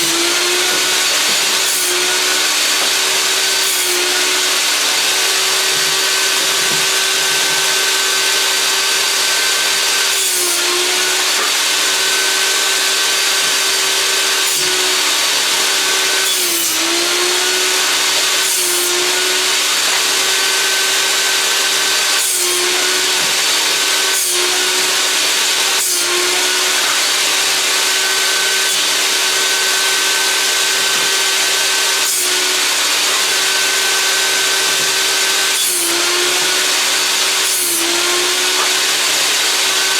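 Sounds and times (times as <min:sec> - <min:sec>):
table saw whining: 0:00.0 - 0:39.9.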